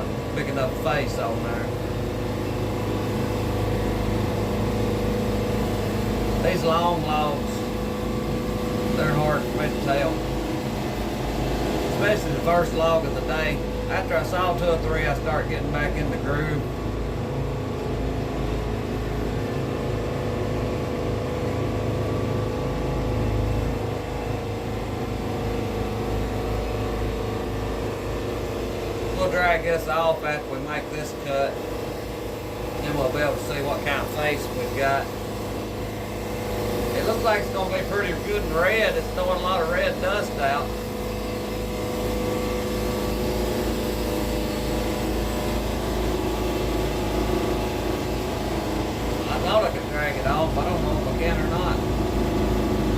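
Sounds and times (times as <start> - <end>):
sawmill engine running: 0.0 - 52.9.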